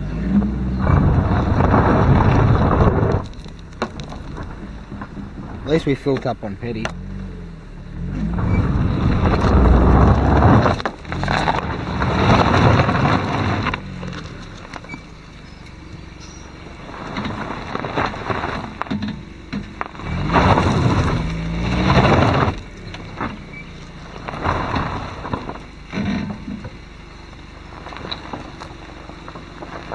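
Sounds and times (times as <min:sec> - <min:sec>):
car engine running: 0:00.0 - 0:29.9
tyres crunching on gravel: 0:00.0 - 0:29.9.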